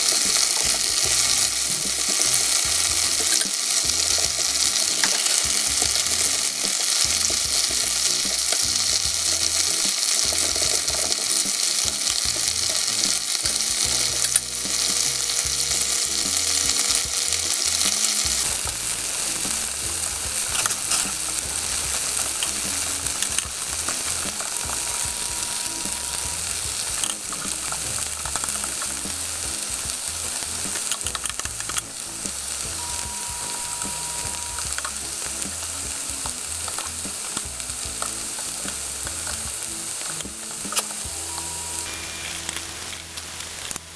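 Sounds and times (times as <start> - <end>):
tofu sizzling in oil: 0.0 - 43.9.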